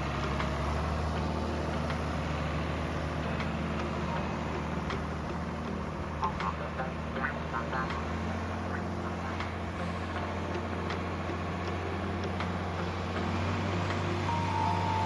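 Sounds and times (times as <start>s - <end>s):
tractor engine humming: 0.0s - 15.0s.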